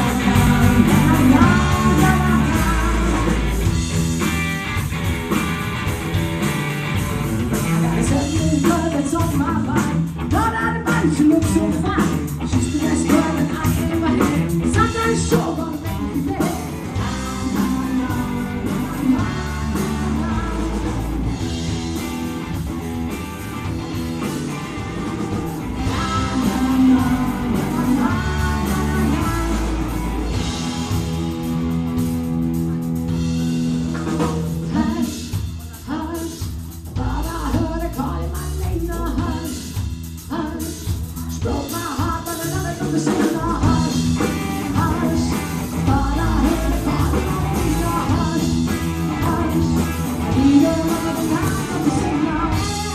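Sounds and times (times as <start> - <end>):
woman singing lead: 0.0 - 4.0, 7.5 - 23.2, 23.8 - 31.4, 32.6 - 52.9
drum kit: 0.0 - 52.9
electric bass: 0.0 - 52.9
electric guitar: 0.0 - 52.9.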